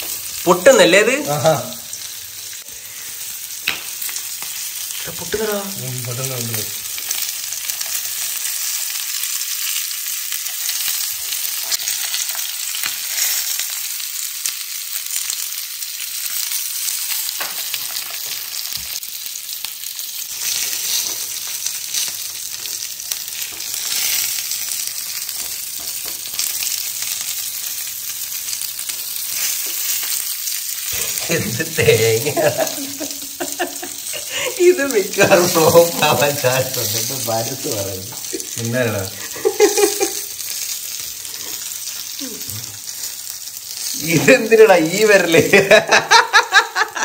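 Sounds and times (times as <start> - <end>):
corn sizzling in oil: 0.0 - 47.0.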